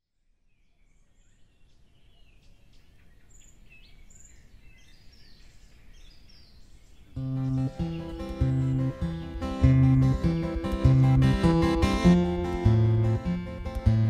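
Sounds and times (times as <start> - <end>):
small birds chirping: 0.5 - 14.0.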